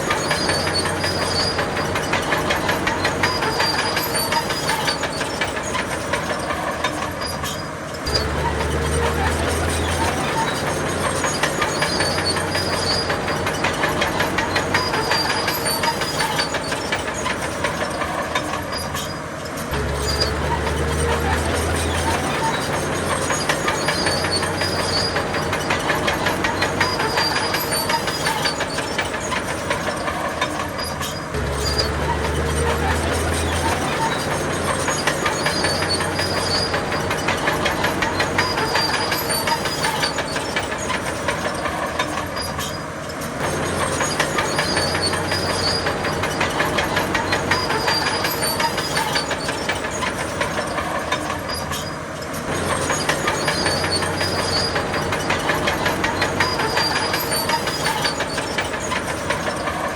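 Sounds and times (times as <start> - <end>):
heavy diesel machinery clattering: 0.0 - 59.9.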